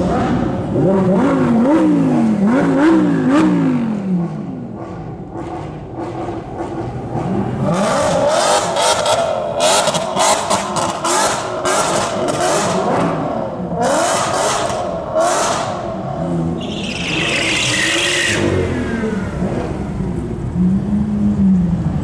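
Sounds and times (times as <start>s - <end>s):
sports car engine revving: 0.0s - 22.0s.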